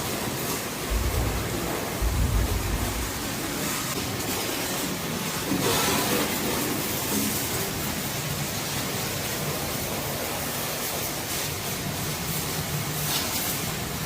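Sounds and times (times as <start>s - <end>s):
water spraying from hose: 0.0s - 14.0s.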